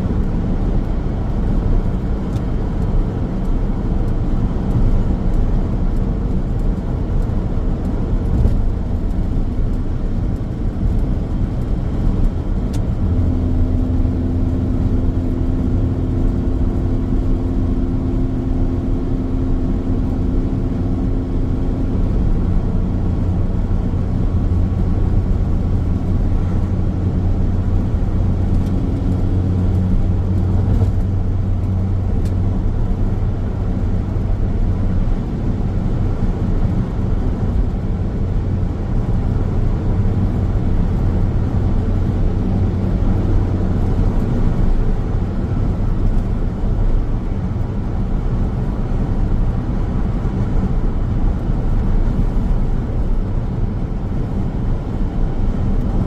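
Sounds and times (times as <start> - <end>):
engine drone: 0.0 - 56.0
road and tyre rumble: 0.0 - 56.0.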